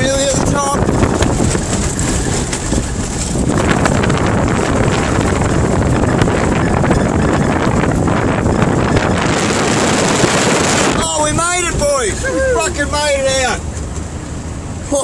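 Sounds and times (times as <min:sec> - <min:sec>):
wind buffeting microphone: 0:00.0 - 0:12.8
off-road vehicle engine under load: 0:00.0 - 0:15.0.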